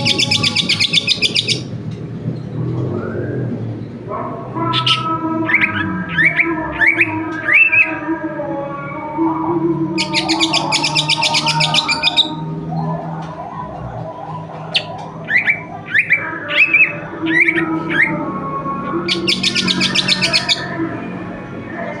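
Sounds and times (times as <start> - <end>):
bird singing: 0.0 - 1.8, 2.4 - 8.1, 9.8 - 21.2.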